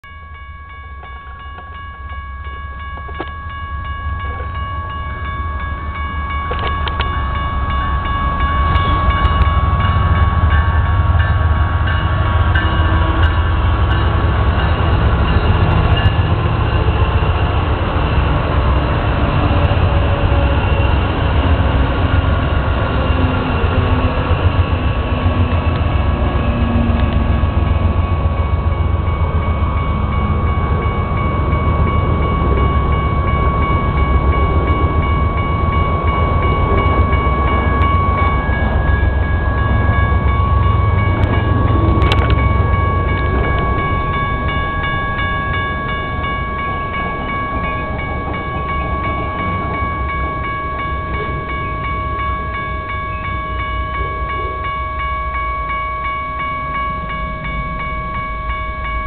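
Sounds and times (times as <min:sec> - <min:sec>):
freight train passing: 0:00.0 - 0:59.0.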